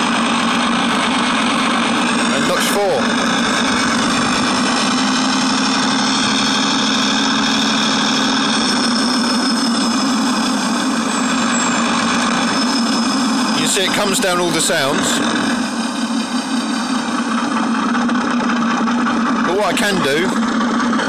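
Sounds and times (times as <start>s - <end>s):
simulated diesel locomotive engine drone: 0.0s - 21.0s.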